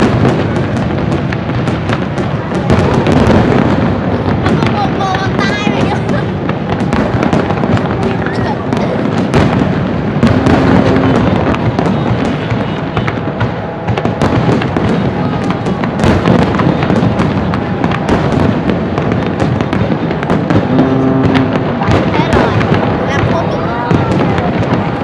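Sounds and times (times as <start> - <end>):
fireworks bursts and bangs: 0.0 - 25.0
fireworks crackling: 0.0 - 25.0.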